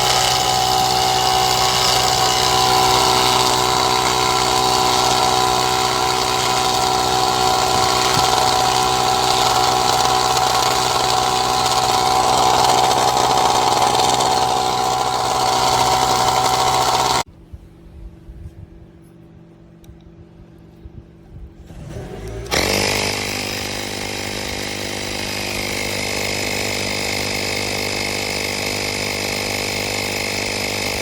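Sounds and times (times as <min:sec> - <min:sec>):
air compressor motor humming: 0:00.0 - 0:17.3, 0:22.4 - 0:31.0.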